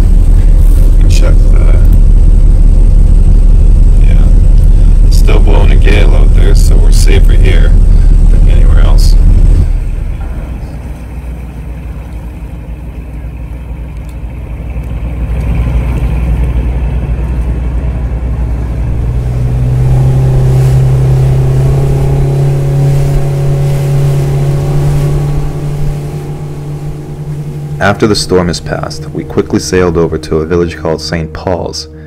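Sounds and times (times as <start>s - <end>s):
low engine rumble: 0.0s - 32.0s
outboard motor drone: 0.0s - 32.0s.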